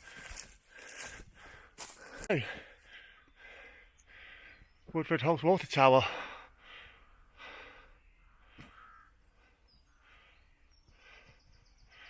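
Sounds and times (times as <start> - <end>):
faint breaths: 0.0 - 4.9, 6.0 - 12.0.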